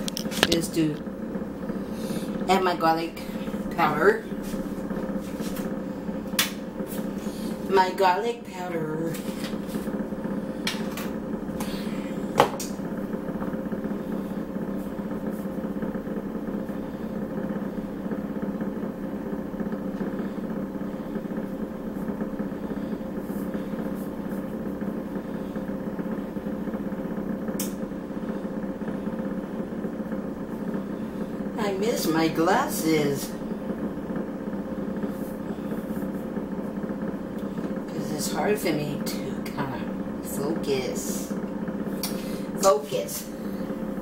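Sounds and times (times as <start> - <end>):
motor hum: 0.0 - 44.0.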